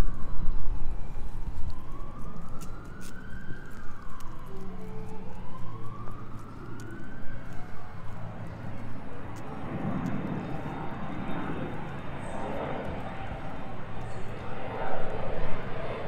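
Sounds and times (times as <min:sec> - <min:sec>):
emergency siren wailing: 0:00.0 - 0:16.0.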